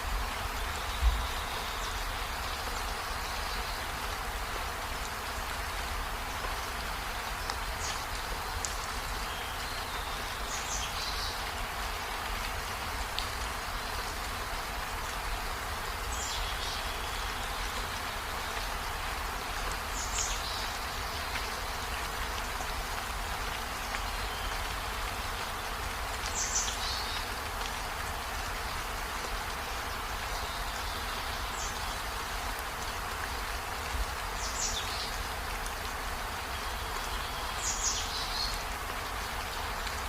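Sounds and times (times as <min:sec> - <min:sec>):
rain falling on trees: 0:00.0 - 0:40.0.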